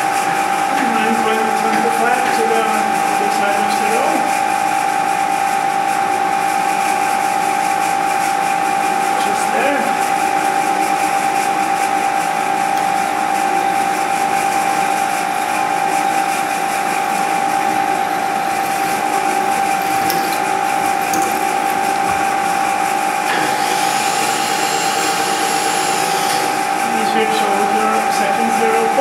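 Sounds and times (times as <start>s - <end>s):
milling machine drill whine: 0.0s - 29.0s.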